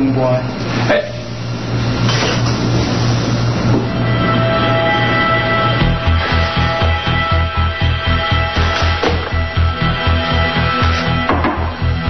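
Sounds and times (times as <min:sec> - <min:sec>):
loud steady rushing noise: 0:00.0 - 0:12.0
low hum: 0:00.0 - 0:12.0.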